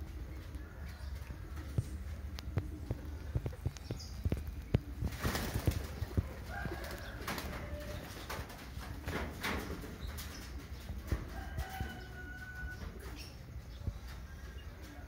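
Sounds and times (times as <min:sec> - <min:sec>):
chickens flapping wings: 0:00.0 - 0:13.2.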